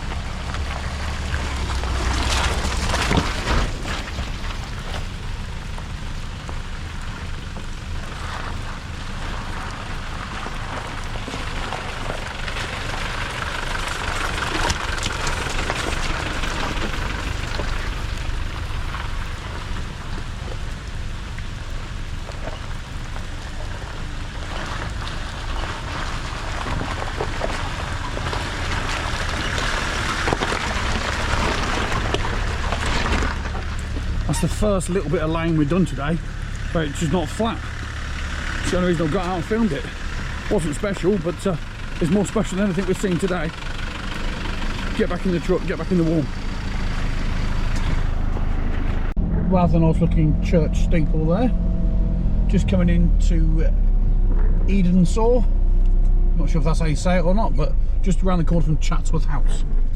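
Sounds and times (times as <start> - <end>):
rain hissing: 0.0 - 49.1
tyre noise: 0.0 - 57.9
truck engine running: 0.0 - 59.9.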